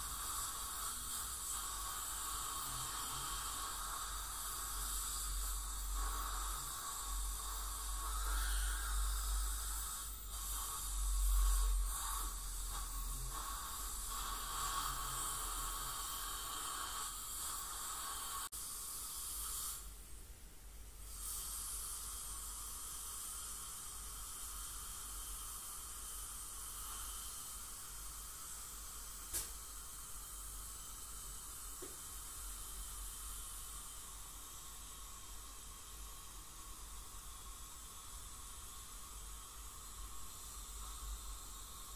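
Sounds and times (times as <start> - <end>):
dental scaler hissing: 0.0 - 20.0, 21.0 - 41.9.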